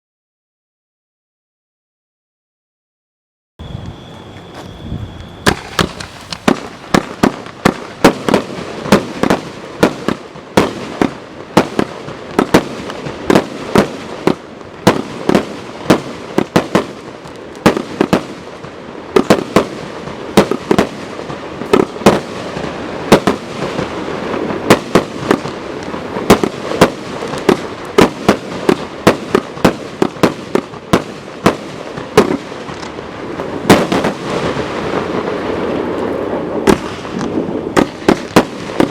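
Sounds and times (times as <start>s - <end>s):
firework battery bangs: 3.6s - 17.0s, 19.2s - 38.9s
firework crackling: 3.6s - 38.9s.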